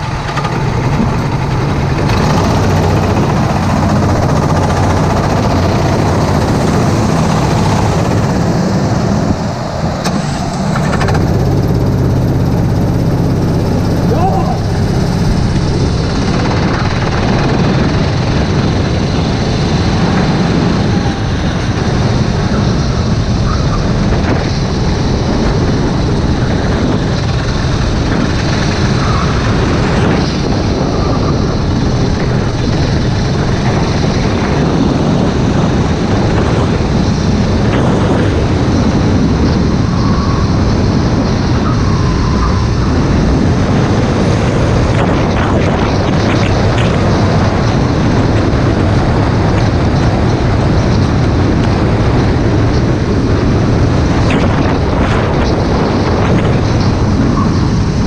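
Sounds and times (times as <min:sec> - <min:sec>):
kart engine running: 0:00.0 - 0:58.0
road noise: 0:00.0 - 0:58.0
wind noise: 0:00.0 - 0:58.0.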